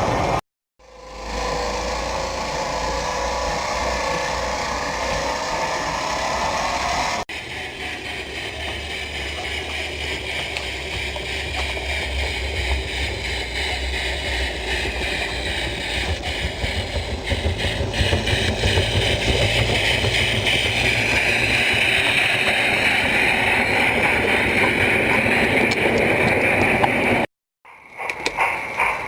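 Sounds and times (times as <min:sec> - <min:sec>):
high whine: 0:00.0 - 0:29.0
model train rumbling on track: 0:00.0 - 0:29.0.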